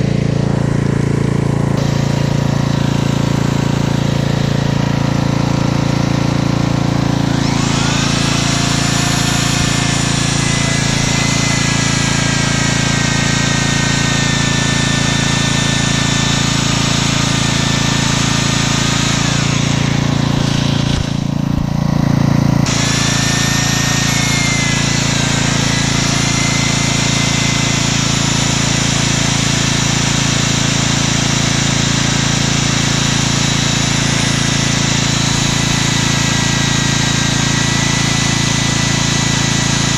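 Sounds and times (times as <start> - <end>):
core drill grinding concrete: 0.0 - 39.9
generator engine humming: 0.0 - 39.9.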